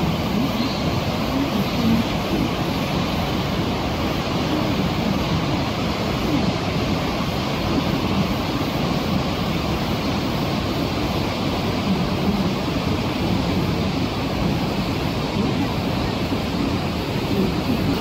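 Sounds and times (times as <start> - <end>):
river rapids rushing: 0.0 - 18.0.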